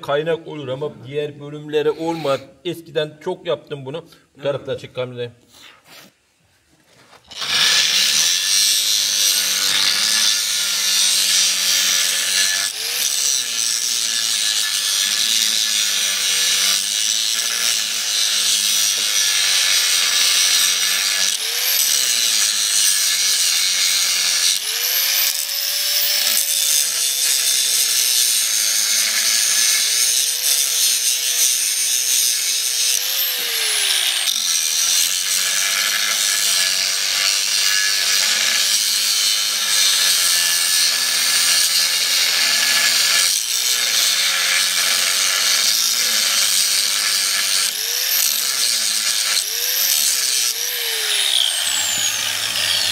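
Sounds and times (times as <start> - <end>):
angle grinder grinding steel: 7.2 - 52.9.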